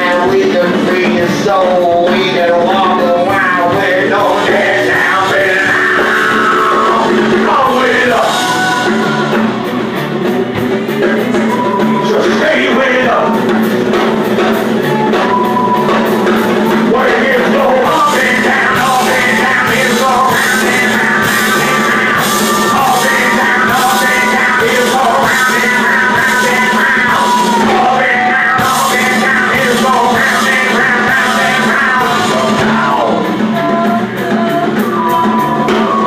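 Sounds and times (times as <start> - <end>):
loud rock music with singing: 0.0 - 36.0.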